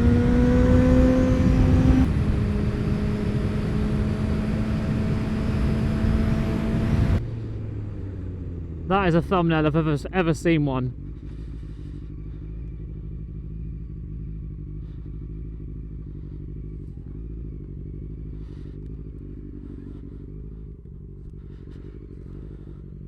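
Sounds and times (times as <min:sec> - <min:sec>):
muffled motorcycle engine running: 0:00.0 - 0:23.0.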